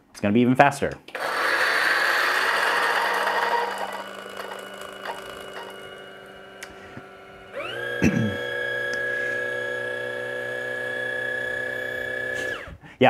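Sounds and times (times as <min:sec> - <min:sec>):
coffee grinder grinding beans: 0:01.1 - 0:12.7.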